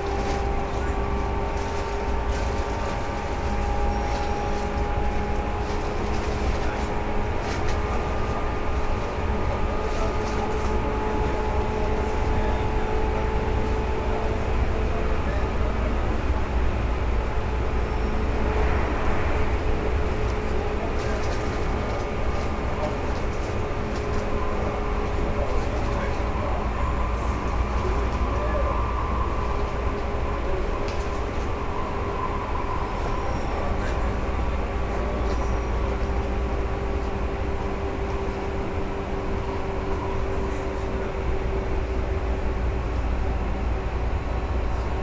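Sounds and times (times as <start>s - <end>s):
train rolling rumble: 0.0s - 45.0s.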